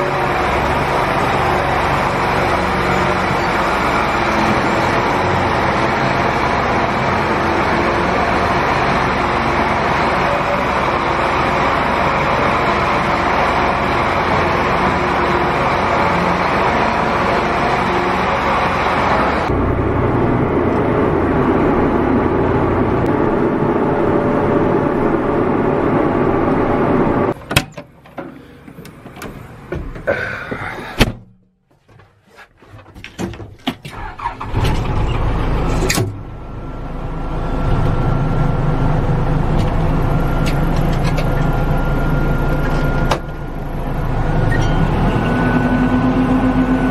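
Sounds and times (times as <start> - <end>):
backhoe diesel engine running: 0.0 - 31.0, 31.8 - 46.9
tractor diesel engine running: 0.0 - 31.1, 32.6 - 46.9.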